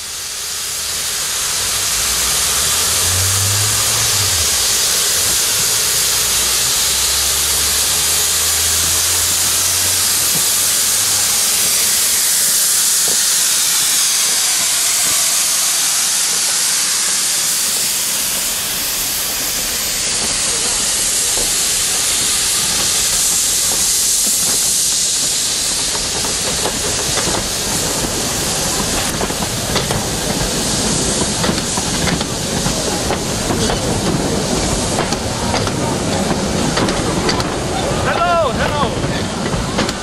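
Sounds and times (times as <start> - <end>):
steam hissing: 0.0 - 40.0.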